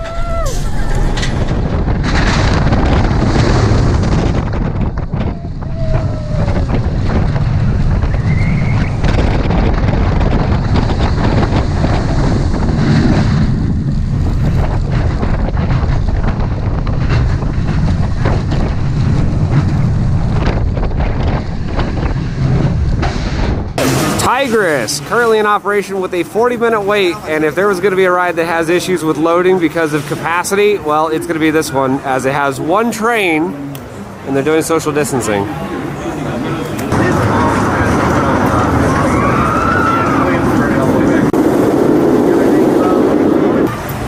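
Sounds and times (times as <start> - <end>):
wind buffeting microphone: 0.0 - 23.8, 29.8 - 44.0.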